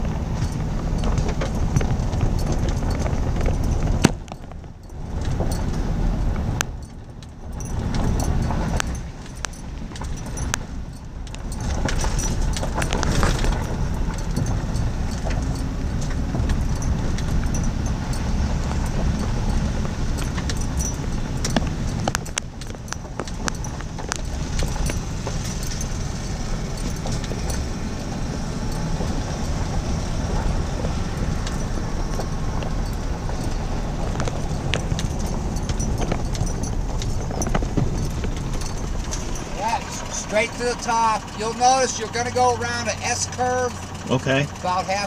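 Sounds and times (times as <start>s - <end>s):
engine and tyres rumbling: 0.0s - 45.0s
gravel crunching under tyres: 0.0s - 45.0s.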